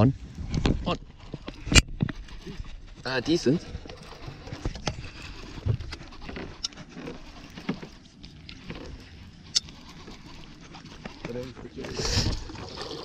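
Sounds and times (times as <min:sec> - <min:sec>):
water lapping: 0:00.0 - 0:13.0
wind: 0:00.0 - 0:13.0.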